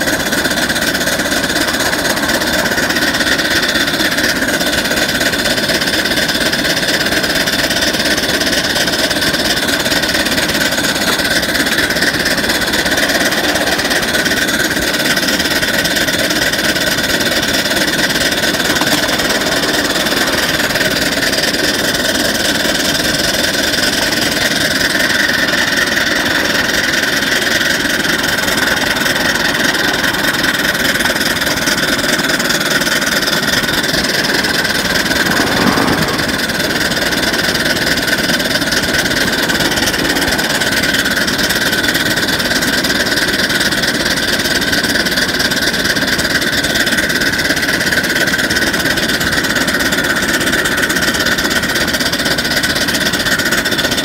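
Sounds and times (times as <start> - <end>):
miniature steam locomotive clatter: 0.0 - 54.0.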